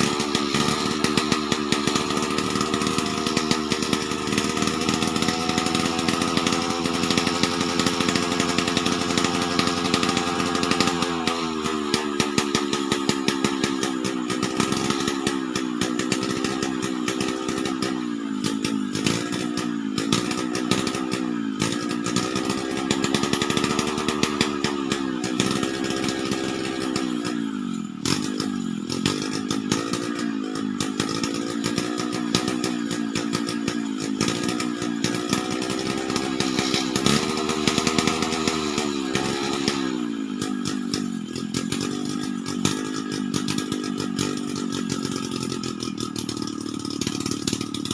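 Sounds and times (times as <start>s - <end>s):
chainsaw cutting timber: 0.0s - 47.9s.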